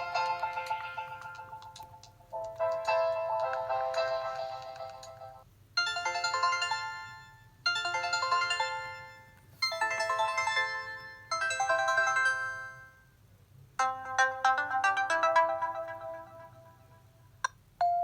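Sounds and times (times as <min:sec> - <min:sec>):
faster ringtone melody: 0:00.0 - 0:13.0, 0:13.8 - 0:17.1
phone ringtone melody: 0:00.0 - 0:13.1, 0:13.8 - 0:17.1.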